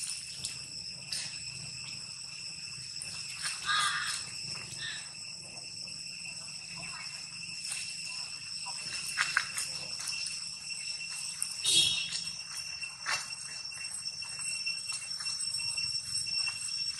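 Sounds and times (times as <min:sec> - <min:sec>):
high-pitched insect chorus: 0:00.0 - 0:16.9
short insect call: 0:00.0 - 0:16.9.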